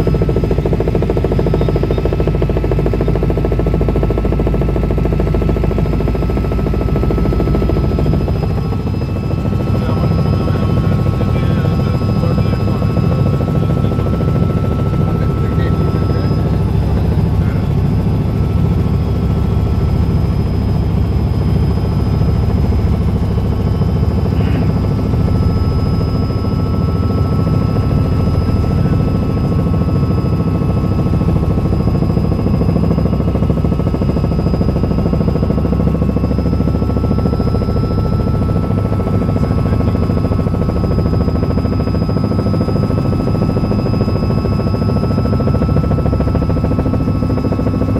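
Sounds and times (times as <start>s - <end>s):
helicopter rotor and engine drone: 0.0s - 47.9s
high-pitched whines: 6.4s - 47.9s.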